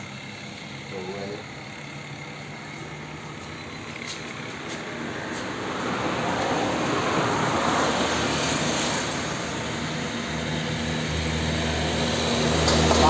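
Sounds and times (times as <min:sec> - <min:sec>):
low engine hum: 0:00.0 - 0:13.0
rushing motor traffic: 0:00.0 - 0:13.0.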